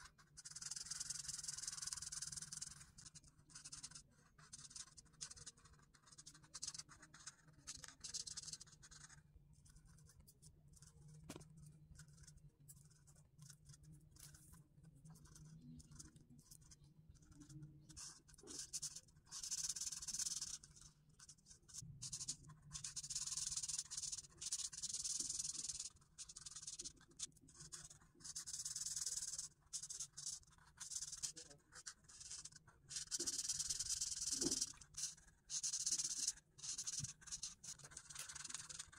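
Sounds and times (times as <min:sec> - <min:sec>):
marker scratching on paper: 0:00.1 - 0:14.5, 0:15.2 - 0:20.9, 0:21.7 - 0:38.9.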